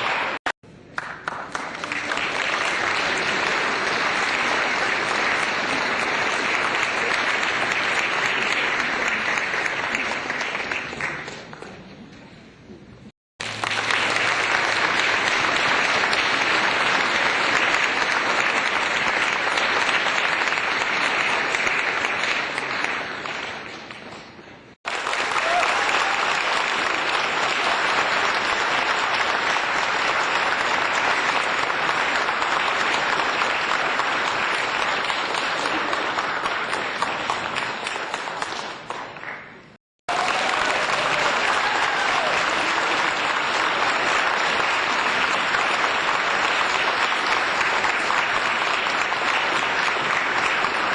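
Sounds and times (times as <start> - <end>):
crowd applause: 0.0 - 12.0, 13.4 - 50.9.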